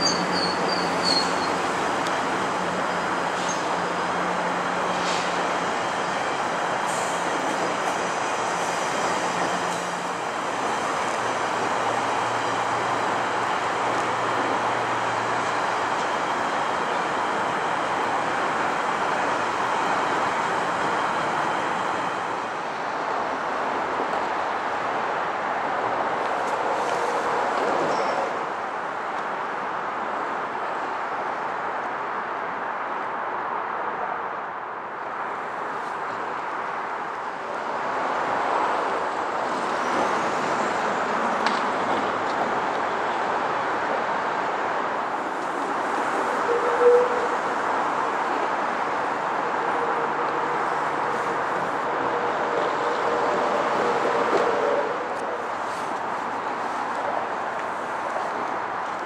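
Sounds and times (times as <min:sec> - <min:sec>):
train wheel and rail noise: 0:00.0 - 0:59.0.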